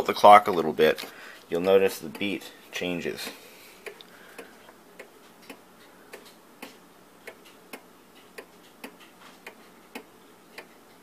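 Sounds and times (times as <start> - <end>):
clock ticking unevenly: 0.2 - 2.5, 3.2 - 11.0.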